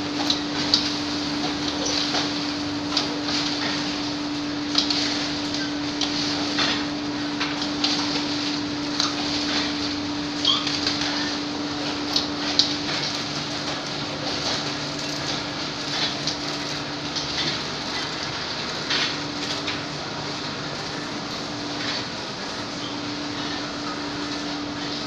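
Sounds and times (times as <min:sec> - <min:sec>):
industrial machinery humming: 0:00.0 - 0:25.0.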